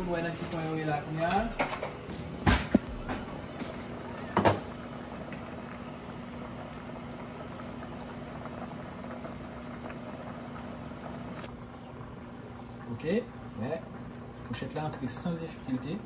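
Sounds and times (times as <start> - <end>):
pot boiling and bubbling: 0.0 - 16.0
low hum: 1.5 - 14.4.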